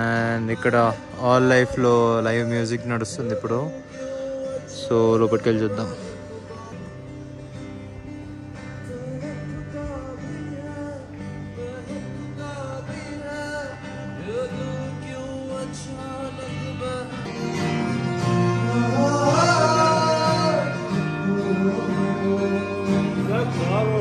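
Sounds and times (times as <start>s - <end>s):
person singing: 0.0s - 7.6s, 8.6s - 24.0s
guitar accompaniment: 0.0s - 24.0s.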